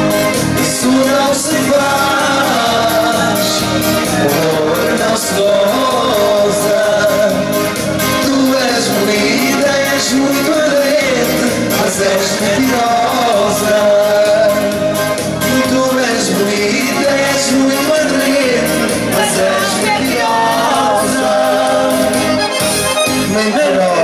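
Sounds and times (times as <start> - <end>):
dance music over pa system: 0.0 - 24.0.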